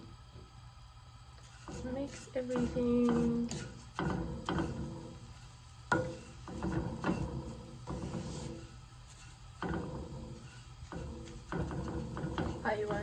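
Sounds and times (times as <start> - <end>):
utensil scraping in a pan: 1.2 - 13.0.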